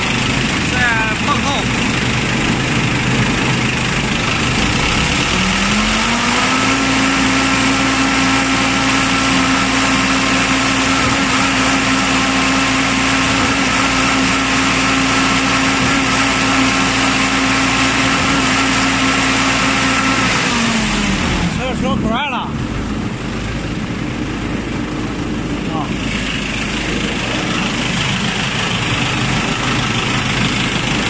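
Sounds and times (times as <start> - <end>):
concrete pump motor running: 0.0 - 31.0.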